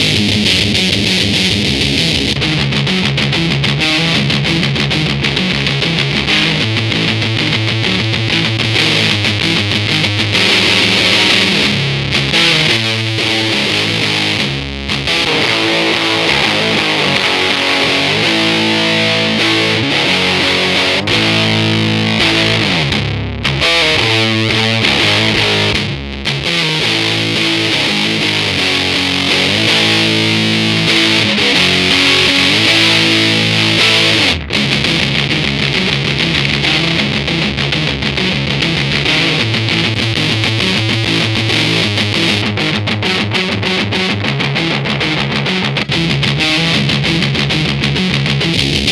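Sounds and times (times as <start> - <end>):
fuzz electric guitar chords: 0.0 - 48.9.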